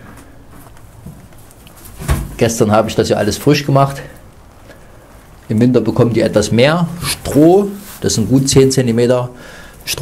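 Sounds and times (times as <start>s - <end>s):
rabbits crunching and nibbling: 0.0s - 9.2s.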